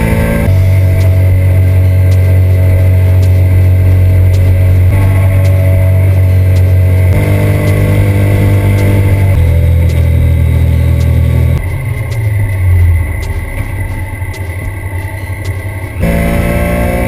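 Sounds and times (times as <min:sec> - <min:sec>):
motorcycle engine at speed: 0:00.0 - 0:17.0.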